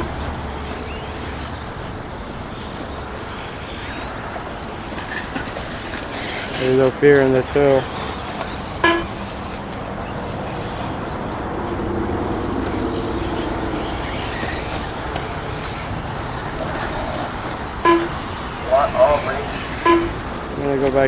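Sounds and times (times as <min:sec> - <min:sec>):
rc buggy motor and gear whine: 0:00.0 - 0:21.0.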